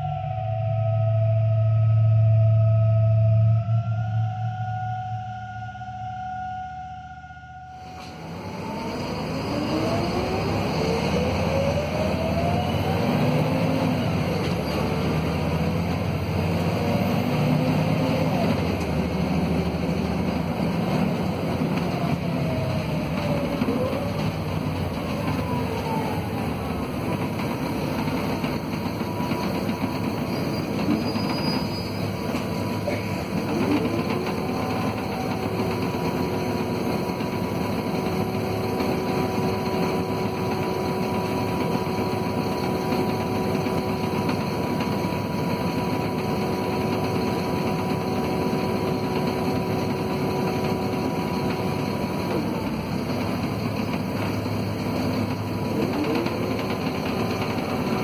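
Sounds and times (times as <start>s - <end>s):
steady gliding tone: 0.0s - 30.9s, 32.0s - 53.2s
bus diesel engine running: 0.0s - 58.0s.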